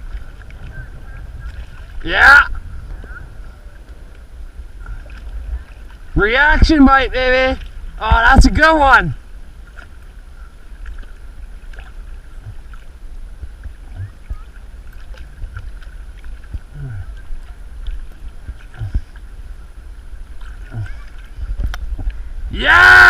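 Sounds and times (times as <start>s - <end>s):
water: 0.0s - 23.0s
wind on microphone: 0.0s - 23.0s.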